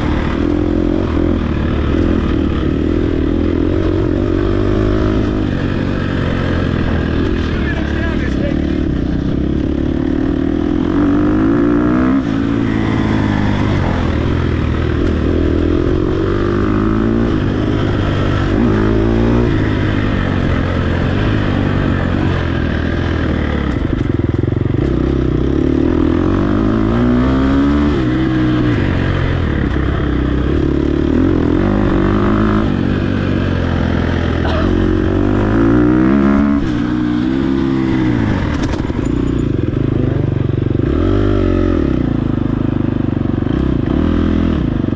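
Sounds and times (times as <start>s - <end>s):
dirt bike engine revving: 0.0s - 42.8s, 43.4s - 44.9s.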